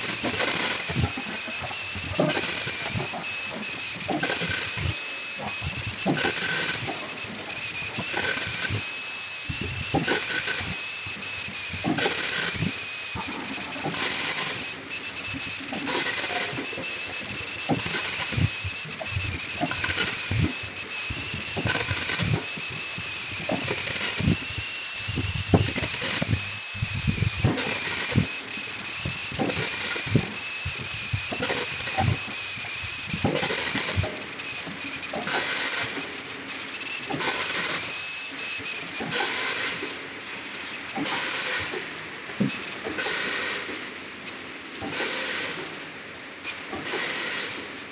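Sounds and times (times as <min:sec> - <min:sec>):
high machine whine: 0:00.0 - 0:47.9
machine clicking and rattling: 0:00.0 - 0:47.9.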